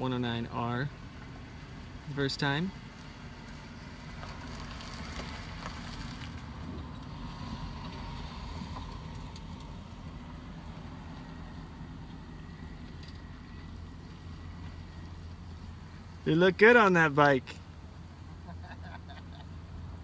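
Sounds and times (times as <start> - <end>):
cars passing by: 0.0 - 20.0
low engine rumble: 0.0 - 20.0.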